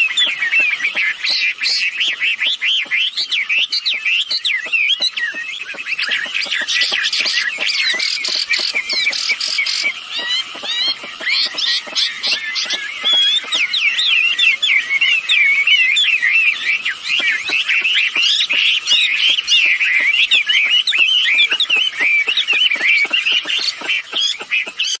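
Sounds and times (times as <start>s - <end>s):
bird clicking notes: 0.0s - 13.9s, 17.1s - 24.9s
birds twittering: 0.0s - 25.0s.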